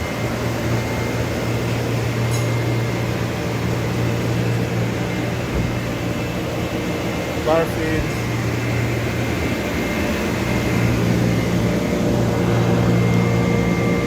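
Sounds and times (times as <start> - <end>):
machine hum with high whine: 0.0 - 14.0.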